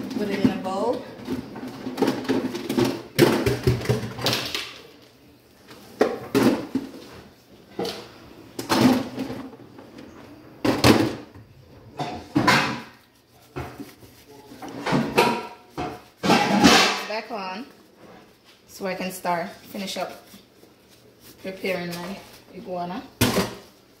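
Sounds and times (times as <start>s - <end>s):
kitchen knocks and clatters: 0.0s - 5.0s, 5.7s - 23.8s.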